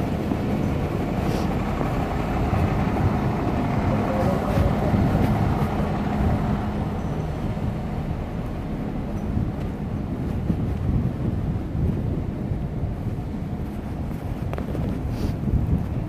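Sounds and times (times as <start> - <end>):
diesel engines idling: 0.0 - 16.0.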